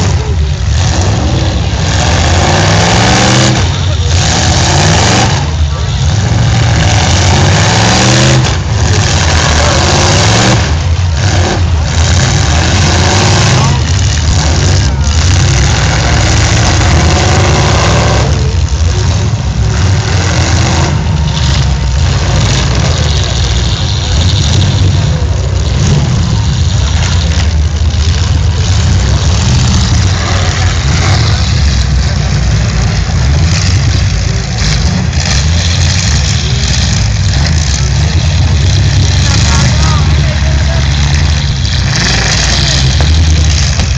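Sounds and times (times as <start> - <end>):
car engines rumbling: 0.0 - 43.9.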